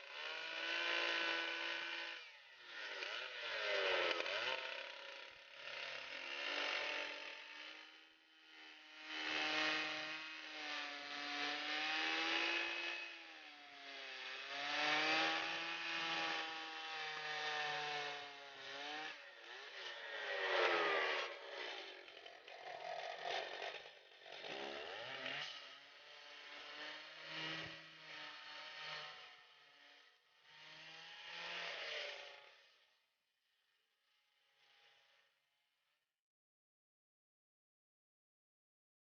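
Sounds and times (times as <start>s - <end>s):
chainsaw engine driving circular saw: 0.0s - 35.6s.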